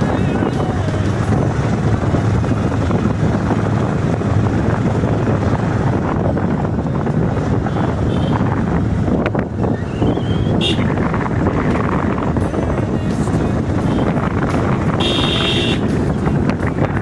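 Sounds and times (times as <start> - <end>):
moving vehicle rumble: 0.0 - 17.0
wind buffeting microphone: 0.0 - 17.0.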